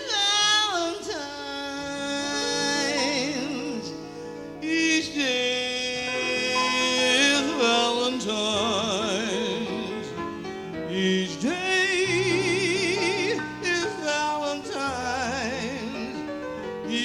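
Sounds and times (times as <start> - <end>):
soft piano: 0.0 - 17.0.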